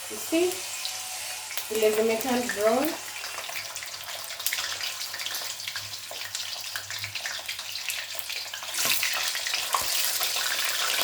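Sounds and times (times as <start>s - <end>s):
sausages sizzling in oil: 0.0s - 11.0s.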